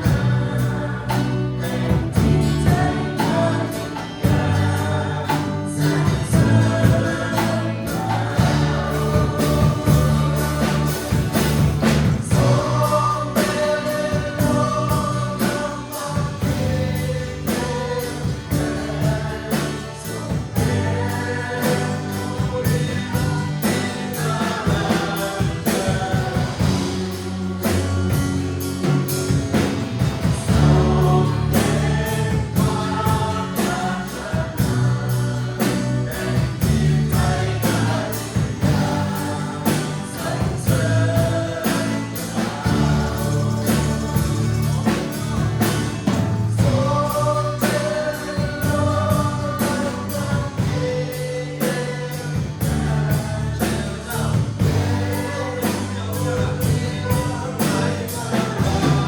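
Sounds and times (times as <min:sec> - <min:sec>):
bass: 0:00.0 - 0:59.0
congregation singing: 0:00.0 - 0:59.0
drum beat: 0:01.2 - 0:16.9, 0:17.7 - 0:35.1, 0:35.7 - 0:51.0, 0:52.4 - 0:59.0.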